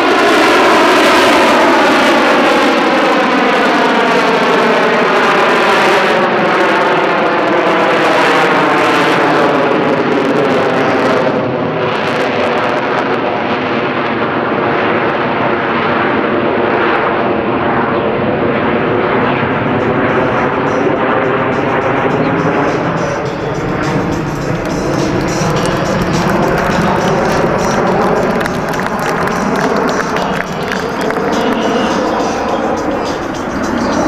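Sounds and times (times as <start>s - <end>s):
jet engine running loud: 0.0s - 34.0s.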